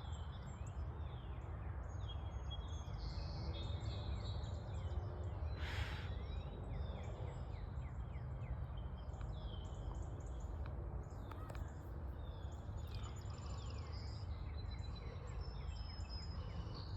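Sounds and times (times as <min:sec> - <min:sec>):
songbirds calling and singing: 0:00.0 - 0:16.9.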